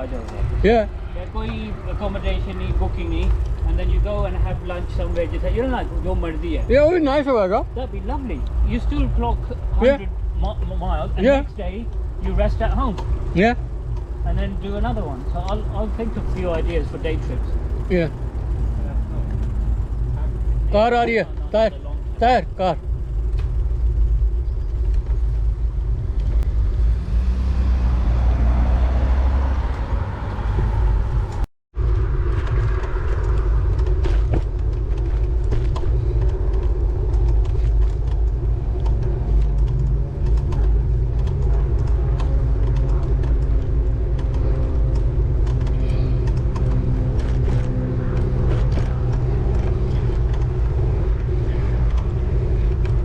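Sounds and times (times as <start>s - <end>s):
car passing: 0.0s - 53.0s
wind and road rumble: 0.0s - 53.0s.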